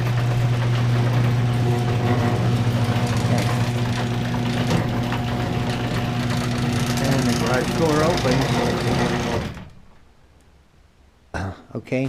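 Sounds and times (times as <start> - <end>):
fast fine rattle: 0.0 - 10.0
garage door opener motor humming: 0.0 - 10.0.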